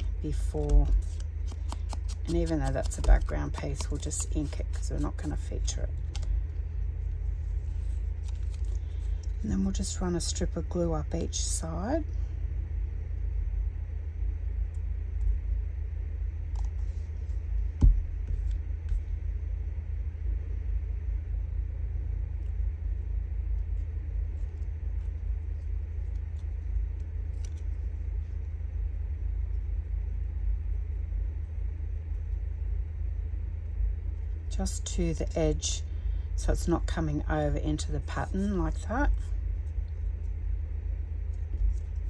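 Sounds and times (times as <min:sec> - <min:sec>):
low background rumble: 0:00.0 - 0:42.0.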